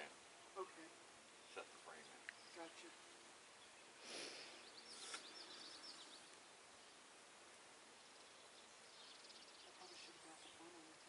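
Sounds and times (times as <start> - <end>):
small bird chirping: 1.3 - 7.2, 7.9 - 11.0.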